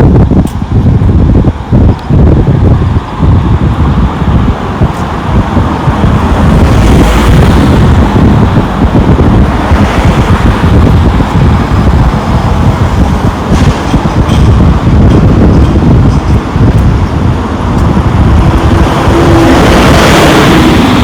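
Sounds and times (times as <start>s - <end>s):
wind buffeting microphone: 0.0s - 21.0s
road traffic hiss: 0.4s - 21.0s.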